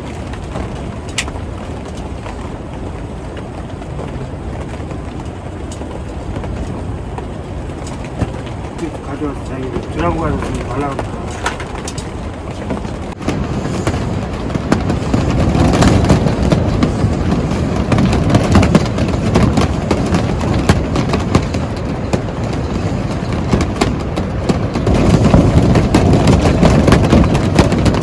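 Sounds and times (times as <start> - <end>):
strong gusting wind: 0.0 - 28.0.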